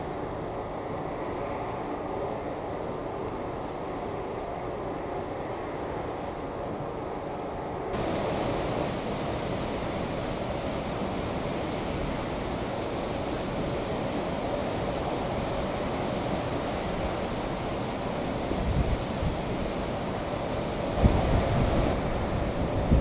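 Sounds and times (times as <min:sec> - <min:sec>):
rushing wind: 0:00.0 - 0:23.0.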